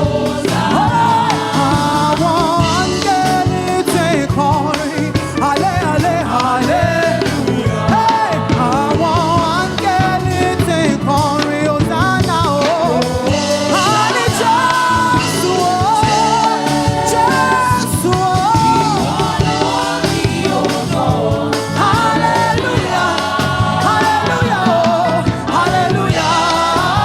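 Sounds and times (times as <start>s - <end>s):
full band playing gospel music: 0.0s - 27.0s.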